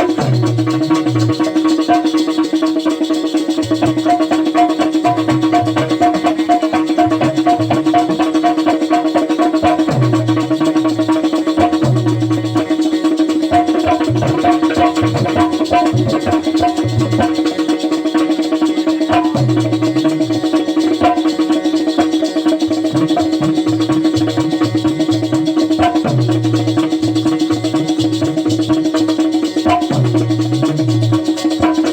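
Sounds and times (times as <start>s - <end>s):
held drone note: 0.0s - 31.9s
steady drum rhythm: 0.0s - 31.9s.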